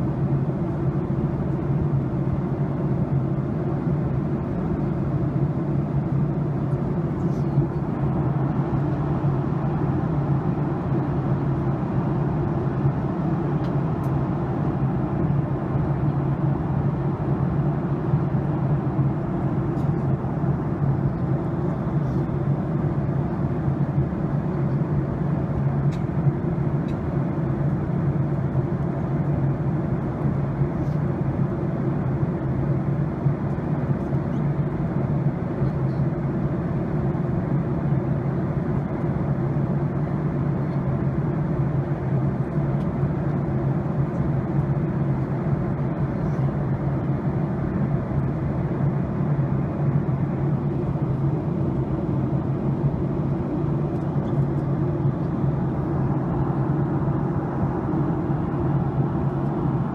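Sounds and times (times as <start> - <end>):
jet cabin engine hum: 0.0 - 59.9.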